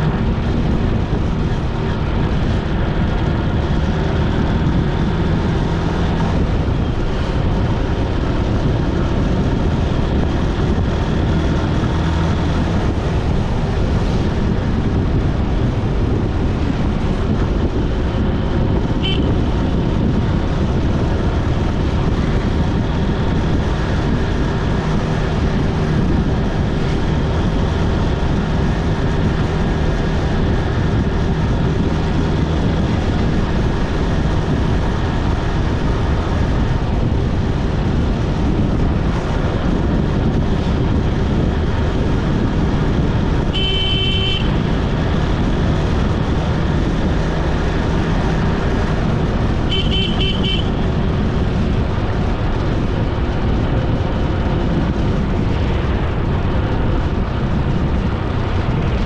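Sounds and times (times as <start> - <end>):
vehicle engine low hum: 0.0 - 59.0
wind and tyre noise: 0.0 - 59.0.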